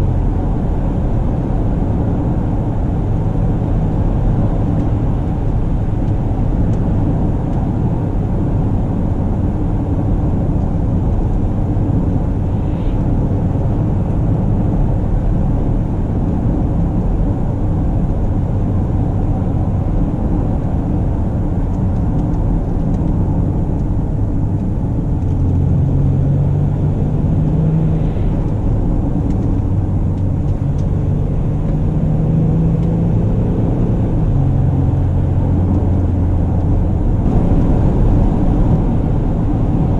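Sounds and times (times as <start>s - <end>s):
car engine rumble: 0.0s - 39.9s
road noise: 0.0s - 39.9s.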